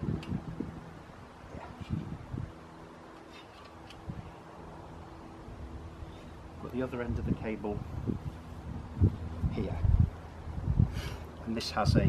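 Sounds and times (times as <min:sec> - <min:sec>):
low wind rumble on microphone: 0:00.0 - 0:03.2, 0:03.8 - 0:12.0.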